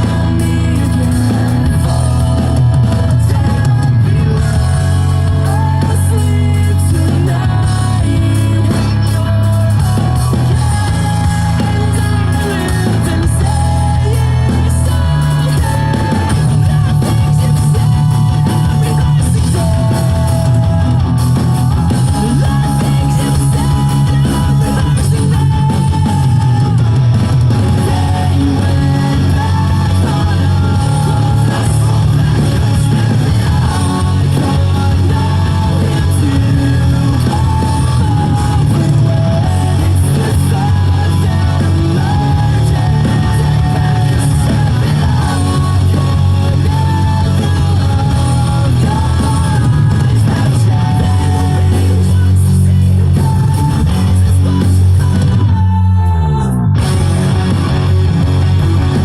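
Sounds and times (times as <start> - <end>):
electric guitar: 0.0 - 59.0
rock music with singing: 0.0 - 59.0.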